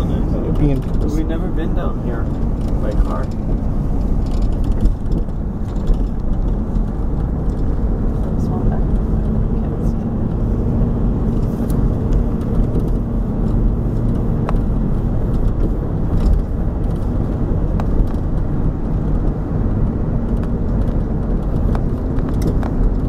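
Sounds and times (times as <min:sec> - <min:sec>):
car road noise from inside: 0:00.0 - 0:23.0
small clicks and rattles: 0:02.2 - 0:10.5, 0:11.2 - 0:23.0.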